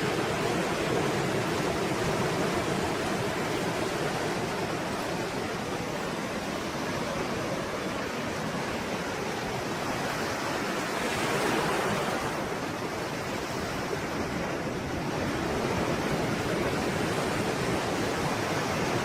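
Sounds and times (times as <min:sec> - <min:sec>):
sea waves surging: 0:00.0 - 0:19.0.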